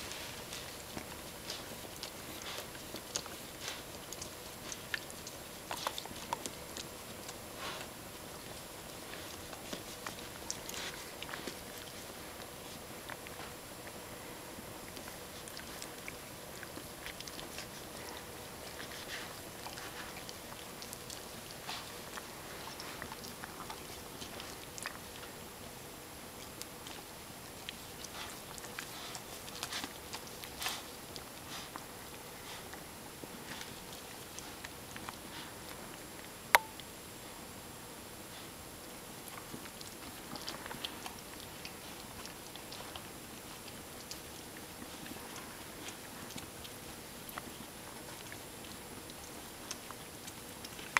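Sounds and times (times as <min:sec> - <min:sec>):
dog licking and nibbling fur: 0:00.0 - 0:50.9
steady hiss: 0:00.0 - 0:50.9.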